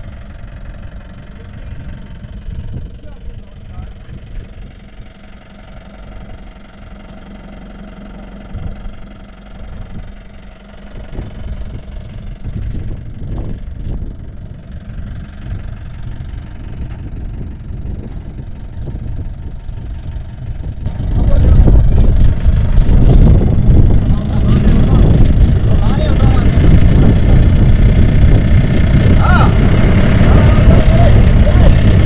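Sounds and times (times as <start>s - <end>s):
jeep engine running: 0.0s - 32.0s.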